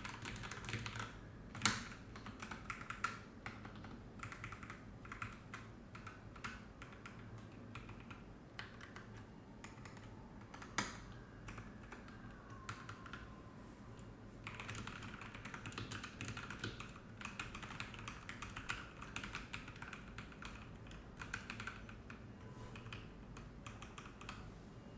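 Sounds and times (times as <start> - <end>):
mechanical keyboard typing: 0.0 - 13.2, 14.4 - 22.2, 22.8 - 24.4.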